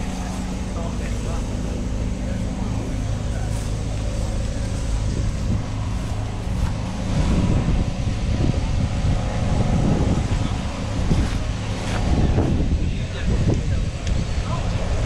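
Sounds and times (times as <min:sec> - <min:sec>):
engine humming: 0:00.0 - 0:15.0
wind buffeting microphone: 0:00.0 - 0:15.0.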